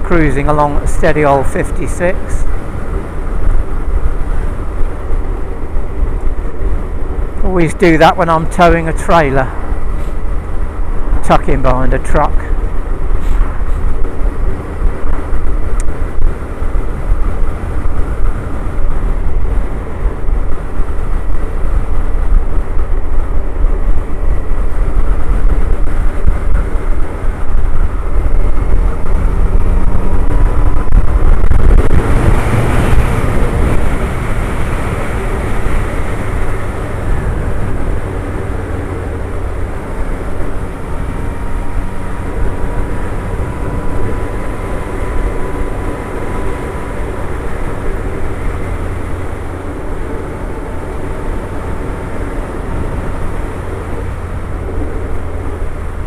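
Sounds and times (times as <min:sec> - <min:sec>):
motorcycle engine cruising: 0:00.0 - 0:56.0
wind and road rush: 0:00.0 - 0:56.0.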